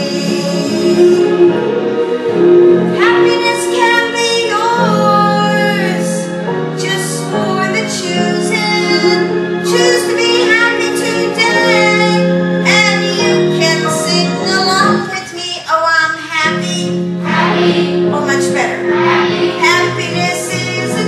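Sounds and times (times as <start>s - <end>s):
instrumental backing: 0.0s - 15.5s, 16.4s - 21.0s.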